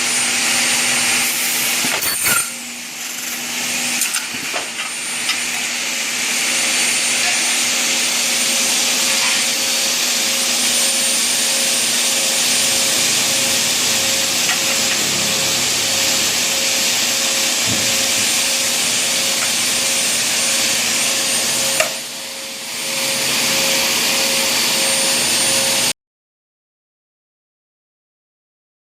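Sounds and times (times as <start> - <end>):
cutting saw motor whining: 0.0 - 25.9.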